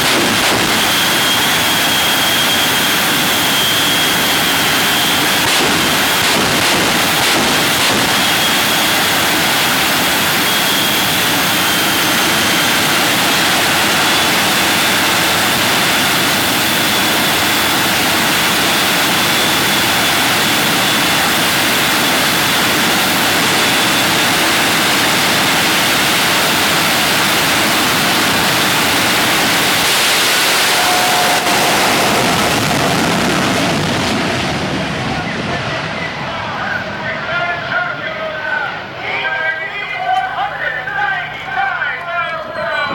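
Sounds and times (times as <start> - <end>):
jet engines rushing: 0.0 - 42.9
faint high whine: 0.7 - 6.2, 7.0 - 42.9.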